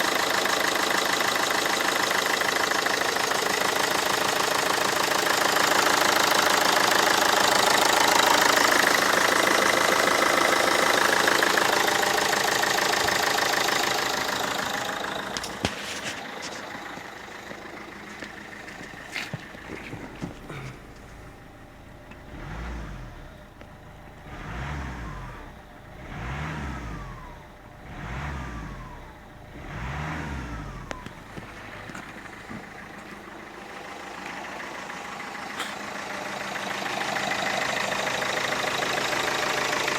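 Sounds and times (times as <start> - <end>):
engine revving: 0.0 - 21.2, 21.9 - 39.9
diesel engine with injector knock: 0.0 - 39.9.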